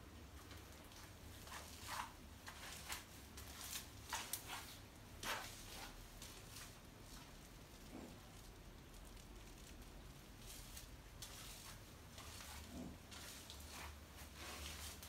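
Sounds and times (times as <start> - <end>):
clothing rustling and footsteps: 0.0 - 15.0.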